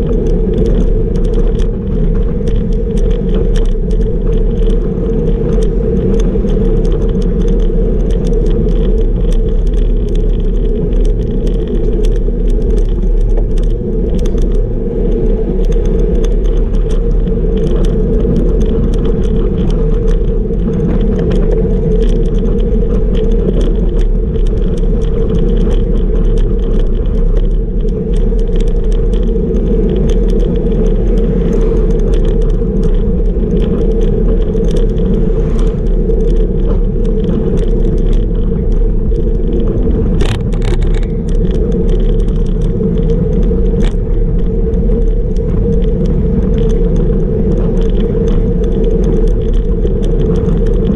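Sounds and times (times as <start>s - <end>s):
bicycle tyre road noise: 0.0s - 50.9s
faint crackle: 0.0s - 50.9s
wind rush on microphone: 0.0s - 50.9s.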